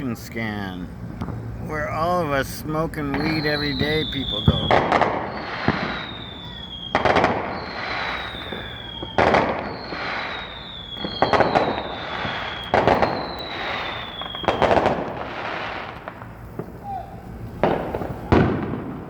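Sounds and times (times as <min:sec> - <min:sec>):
firework bang: 0:03.0 - 0:19.0
firework whistle: 0:03.0 - 0:19.0.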